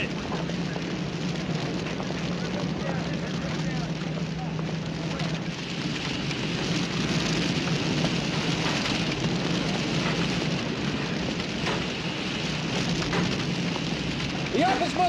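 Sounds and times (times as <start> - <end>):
fire hose spraying water: 0.0 - 15.0
low hum: 0.0 - 15.0.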